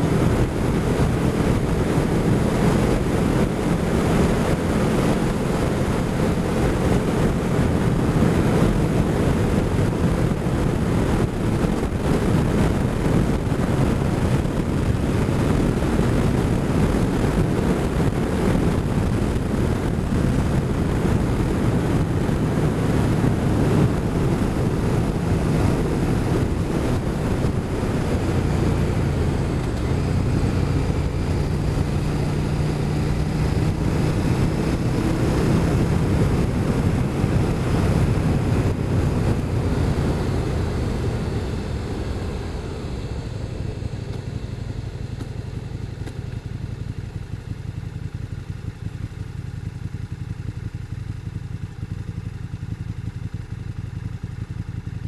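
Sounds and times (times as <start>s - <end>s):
wind rushing over microphone: 0.0s - 48.5s
motorcycle engine hum: 0.0s - 55.0s.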